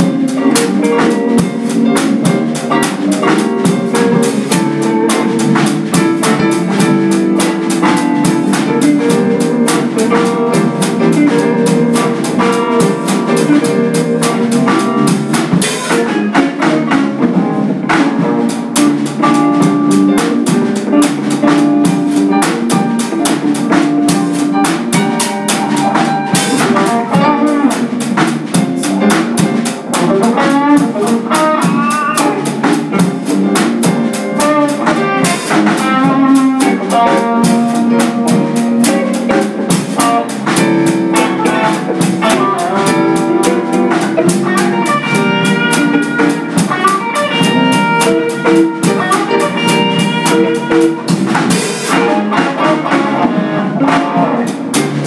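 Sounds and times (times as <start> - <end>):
drum kit groove: 0.0 - 55.0
electric bass: 0.0 - 55.0
electric guitars: 0.0 - 55.0
funk band playing: 0.0 - 55.0.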